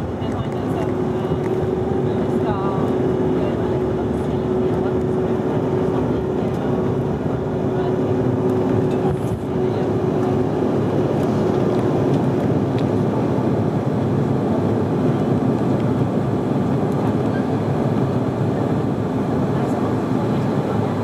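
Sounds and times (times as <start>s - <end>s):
jet engine roar in cabin: 0.0s - 21.0s.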